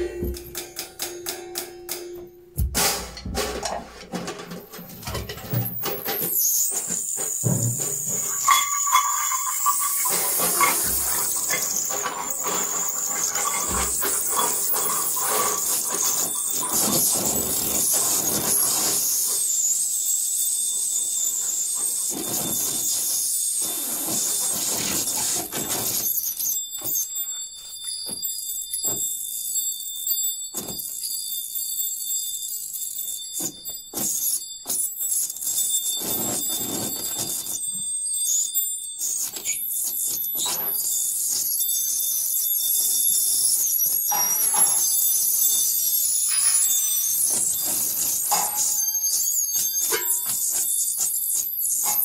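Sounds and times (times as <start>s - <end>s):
high steady squealing tones: 0.0s - 52.0s.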